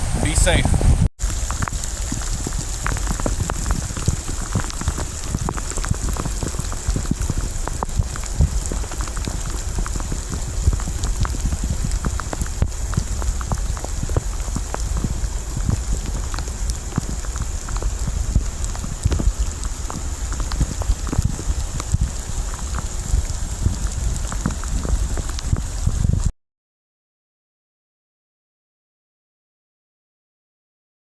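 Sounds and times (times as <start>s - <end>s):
steady low rumble: 0.0s - 26.2s
heavy rain falling: 0.0s - 26.3s
raindrop hits close by: 0.0s - 26.3s.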